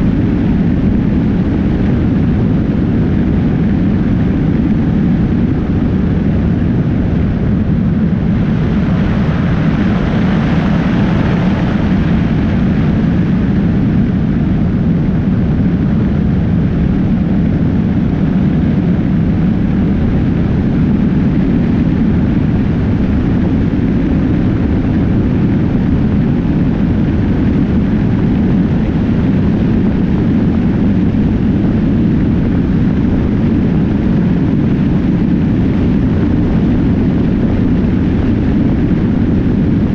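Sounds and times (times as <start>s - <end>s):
wind buffeting camera: 0.0s - 39.9s.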